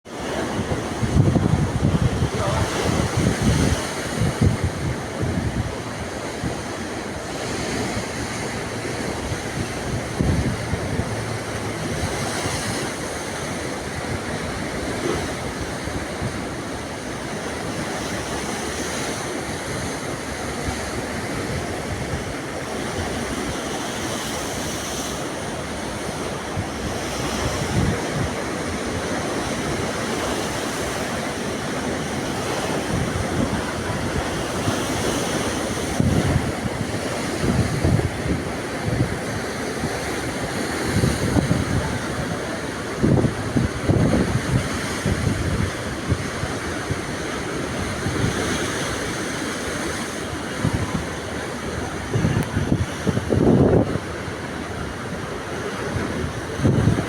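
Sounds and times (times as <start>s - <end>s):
sea waves washing ashore: 0.0s - 57.0s
wind buffeting microphone: 0.1s - 57.0s.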